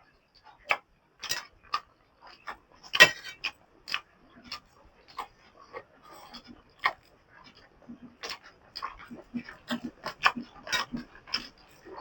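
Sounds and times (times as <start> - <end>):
person chewing noisily: 0.7 - 12.0.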